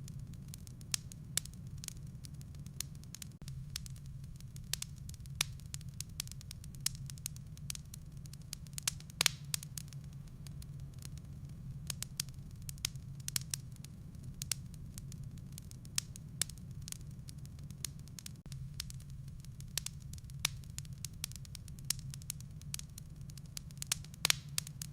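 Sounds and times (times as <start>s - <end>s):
fire low rumble: 0.0s - 24.9s
wood fire crackling: 0.0s - 24.9s.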